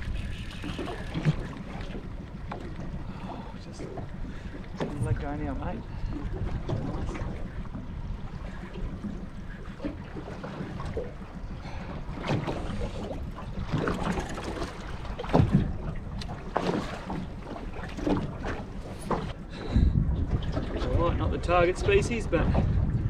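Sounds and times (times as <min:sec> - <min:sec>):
water lapping at boat: 0:00.0 - 0:23.0
wind buffeting microphone: 0:00.0 - 0:23.0.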